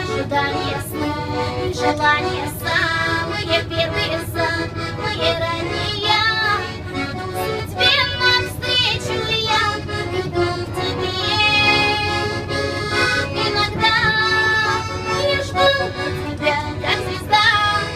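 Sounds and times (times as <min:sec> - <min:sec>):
woman singing with vibrato: 0:00.0 - 0:12.4, 0:13.0 - 0:17.9
instrumental accompaniment: 0:00.0 - 0:17.9
train rumble: 0:00.0 - 0:17.9.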